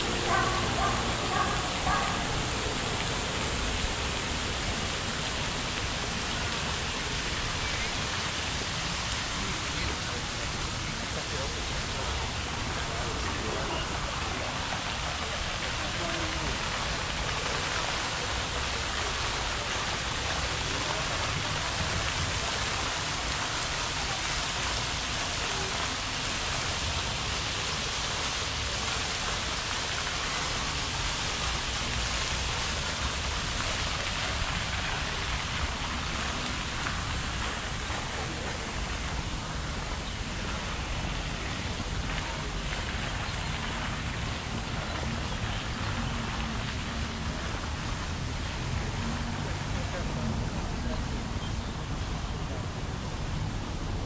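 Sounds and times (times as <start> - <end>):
fountain water splashing: 0.0 - 54.0.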